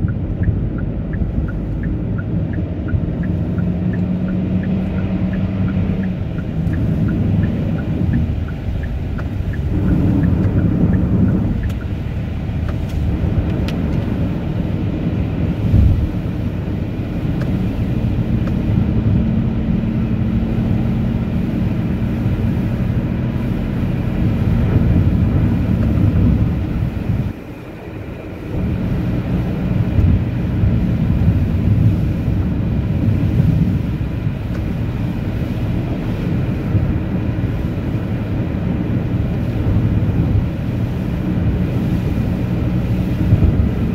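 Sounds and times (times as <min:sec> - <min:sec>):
car driving on snowy road: 0:00.0 - 0:43.9.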